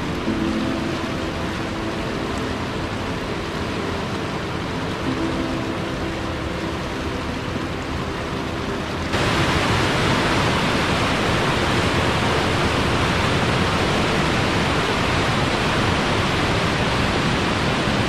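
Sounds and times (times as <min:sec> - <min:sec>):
water rushing through a weir: 0:00.0 - 0:18.0.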